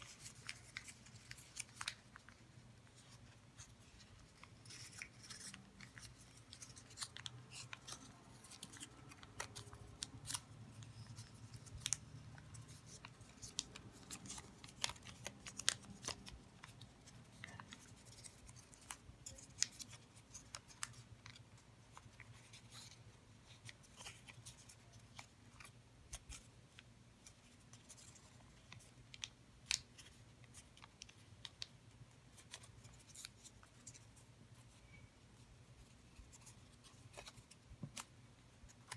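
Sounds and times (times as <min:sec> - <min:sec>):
paper folding and crackling: 0:00.0 - 0:35.1, 0:35.8 - 0:38.9.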